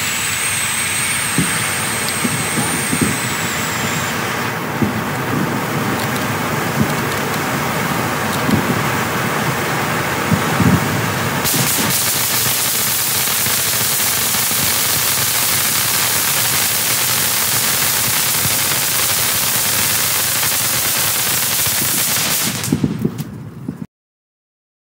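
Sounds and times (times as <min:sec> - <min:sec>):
firework pops: 0:00.0 - 0:07.6, 0:08.2 - 0:08.8, 0:11.4 - 0:23.4
firework fountain crackling and hissing: 0:00.0 - 0:23.9.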